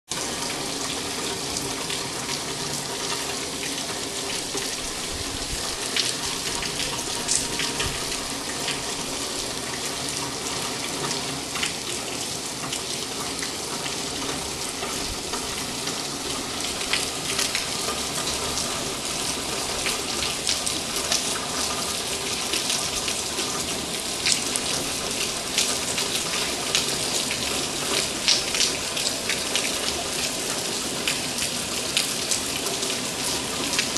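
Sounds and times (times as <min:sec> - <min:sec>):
raindrops ticking close by: 0:00.1 - 0:33.9
steady rain: 0:00.1 - 0:33.9.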